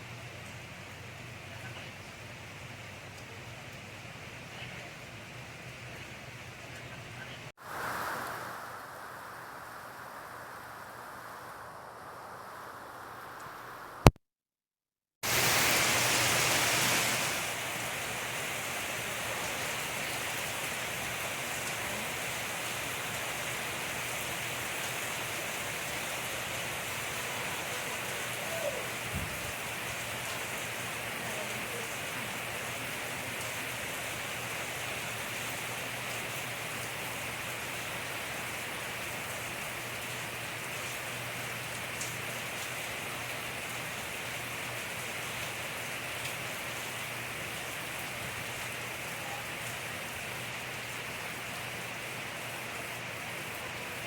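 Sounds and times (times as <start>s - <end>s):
rain falling: 0.0s - 14.2s, 15.2s - 54.0s.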